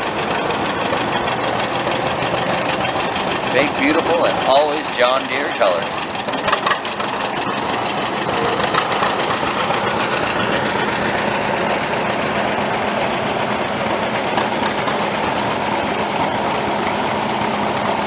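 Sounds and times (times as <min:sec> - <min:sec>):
tractor engine driving past: 0:00.0 - 0:18.0.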